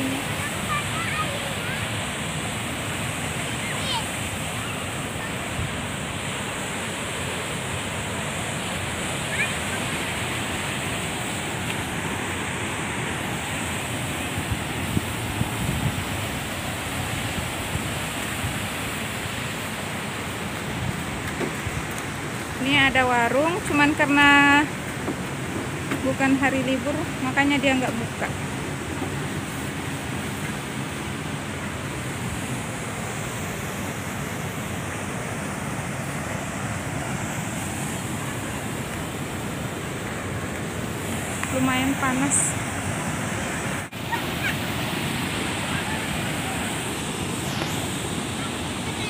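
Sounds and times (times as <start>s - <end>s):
water rushing down spillway: 0.0s - 49.0s.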